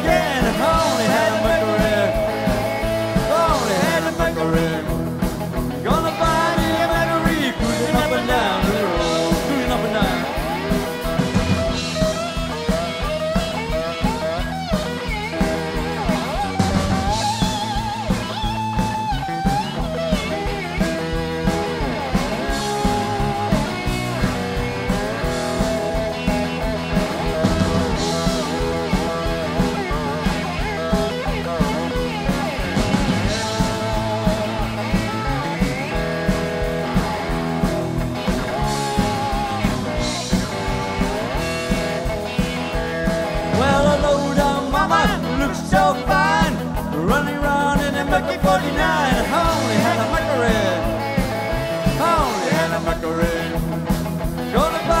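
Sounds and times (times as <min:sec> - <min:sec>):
lead guitar bending notes: 0:00.0 - 0:55.0
live blues band playing: 0:00.0 - 0:55.0.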